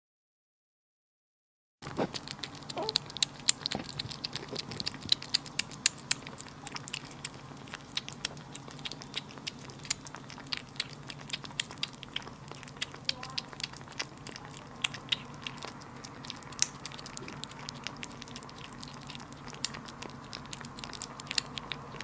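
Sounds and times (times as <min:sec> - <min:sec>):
kittens licking and chewing: 0:01.8 - 0:22.0.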